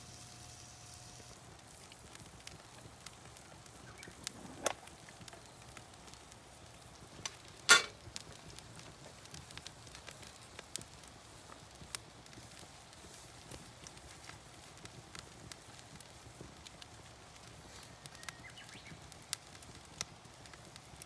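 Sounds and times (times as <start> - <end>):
wood fire crackling: 0.0 - 21.0
sharp pops of fire: 1.3 - 21.0.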